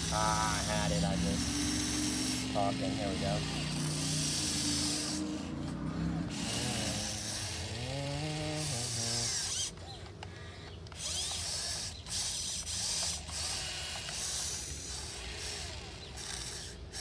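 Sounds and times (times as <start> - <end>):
toy excavator motors whirring: 0.0 - 17.0.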